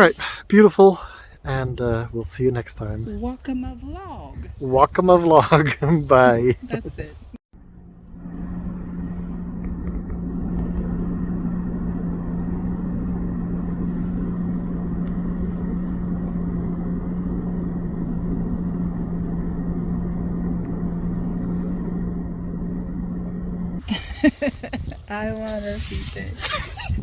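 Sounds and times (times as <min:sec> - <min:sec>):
car engine hum: 0:00.0 - 0:27.0
road rumble: 0:00.0 - 0:27.0.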